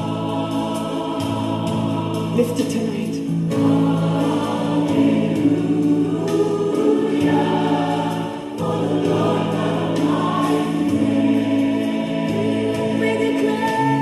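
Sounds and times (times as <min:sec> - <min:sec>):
choir singing: 0:00.0 - 0:14.0
sustained worship chords: 0:00.0 - 0:14.0.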